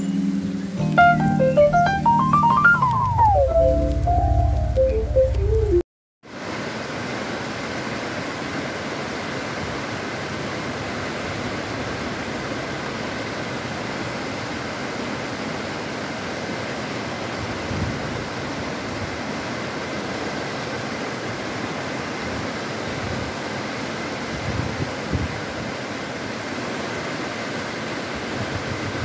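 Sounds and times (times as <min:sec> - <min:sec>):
stream rushing over boulders: 0:05.7 - 0:29.0.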